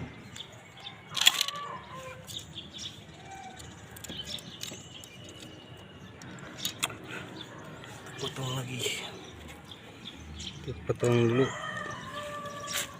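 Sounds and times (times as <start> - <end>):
birds calling: 0.0 - 12.9.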